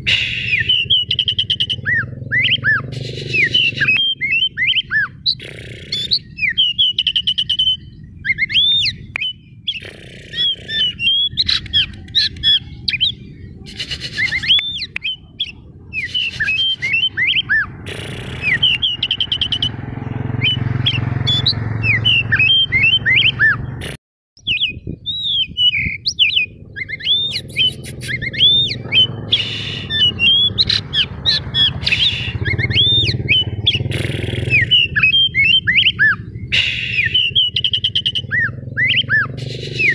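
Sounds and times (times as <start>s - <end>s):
bird singing whistled phrases: 0.1s - 17.7s, 20.3s - 23.7s, 24.4s - 39.9s.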